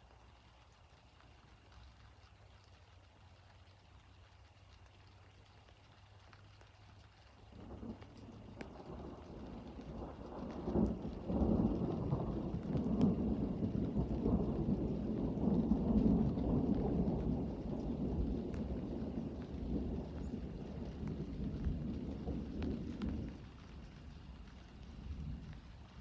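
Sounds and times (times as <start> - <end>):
faint ticks: 0.0 - 26.0
low rolling rumble: 1.4 - 26.0.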